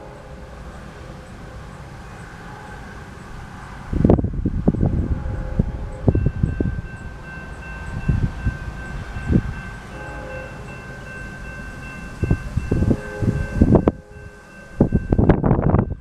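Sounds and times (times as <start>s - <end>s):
railroad crossing bell ringing: 0.0s - 16.0s
wind buffeting microphone: 2.9s - 16.0s.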